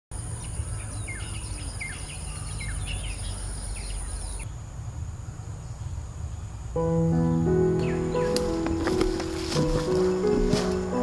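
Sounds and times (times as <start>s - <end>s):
bird chirping: 0.2s - 11.0s.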